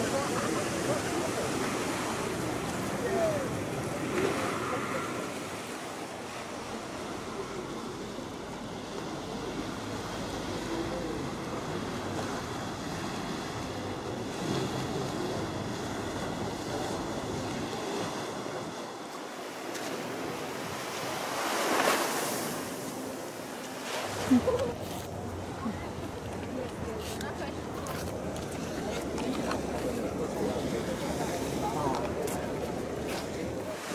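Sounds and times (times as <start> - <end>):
small waves washing on beach: 0.0 - 33.9.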